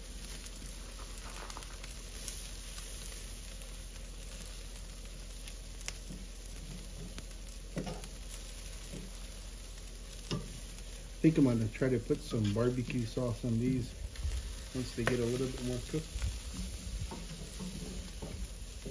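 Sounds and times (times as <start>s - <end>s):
chicken sizzling on charcoal grill: 0.0s - 18.9s.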